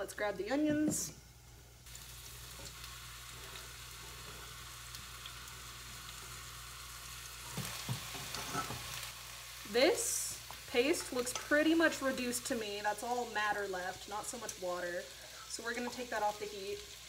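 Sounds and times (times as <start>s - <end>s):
food sizzling in hot oil: 1.8s - 17.0s.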